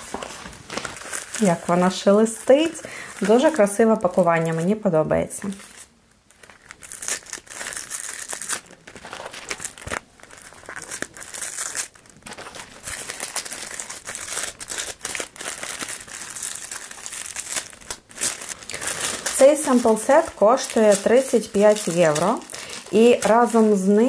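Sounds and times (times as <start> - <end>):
paper packaging rustling: 0.0 - 24.0.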